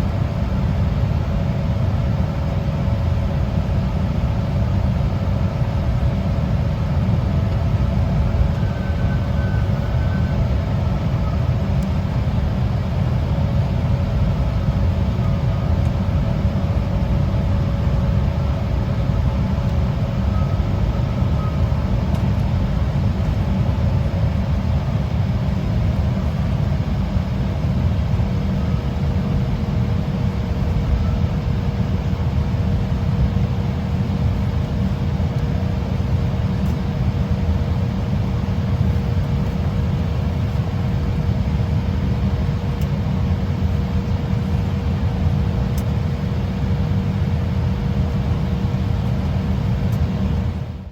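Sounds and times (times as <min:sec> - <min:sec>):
jet engines rumbling: 0:00.0 - 0:50.9
steady whine: 0:00.0 - 0:50.9.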